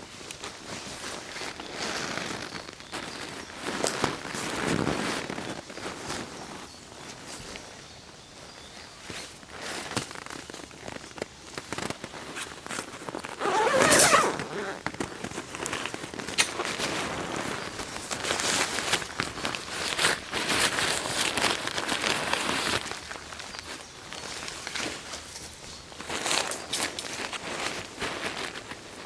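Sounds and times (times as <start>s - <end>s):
nylon fabric rustling: 0.5s - 7.8s, 9.0s - 29.0s.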